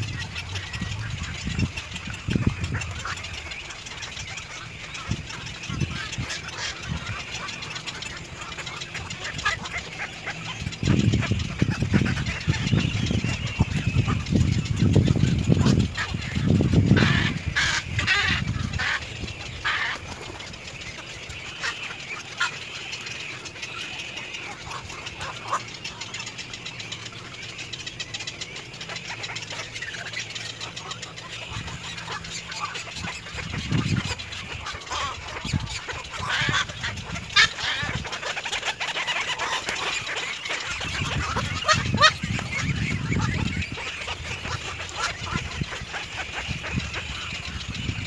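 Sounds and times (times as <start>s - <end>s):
heron calls: 0.0s - 48.0s.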